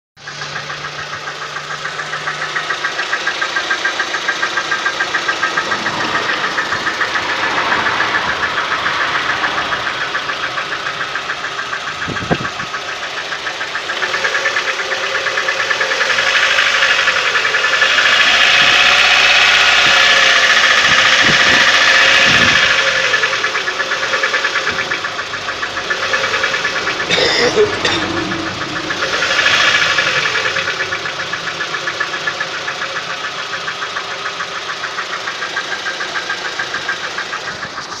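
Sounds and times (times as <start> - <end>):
engine running with knocking: 0.2 - 38.0.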